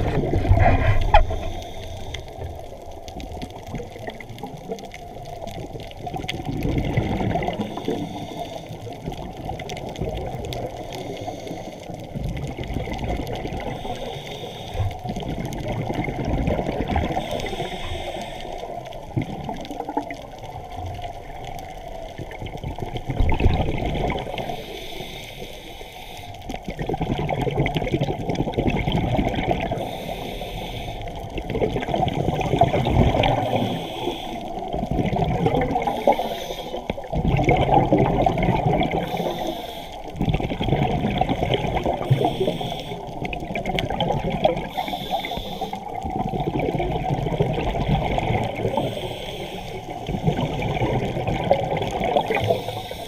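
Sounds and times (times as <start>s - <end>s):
water rushing underwater: 0.0s - 53.0s.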